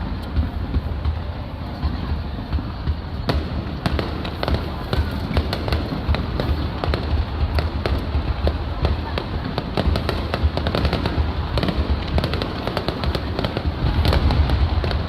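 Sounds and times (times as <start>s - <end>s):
fireworks booming: 0.0s - 15.0s
fireworks crackling pops: 0.0s - 15.0s.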